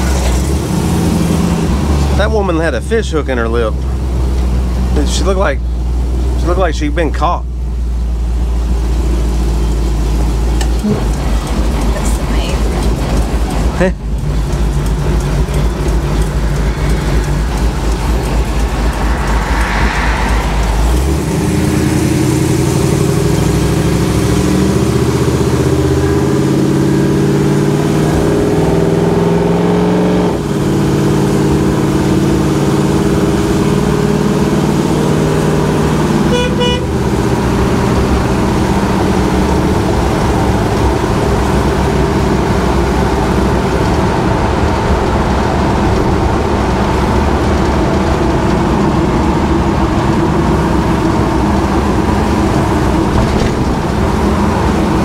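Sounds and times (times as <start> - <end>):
truck engine drone: 0.0 - 55.0
wind and road noise: 0.0 - 55.0.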